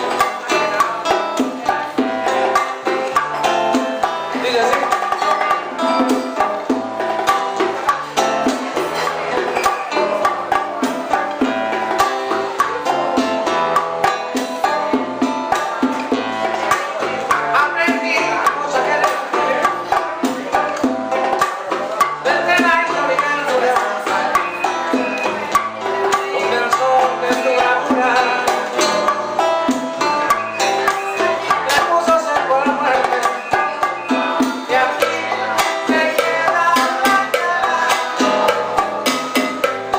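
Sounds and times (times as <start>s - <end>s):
hand percussion beat: 0.0s - 39.9s
plucked strings: 0.0s - 39.9s.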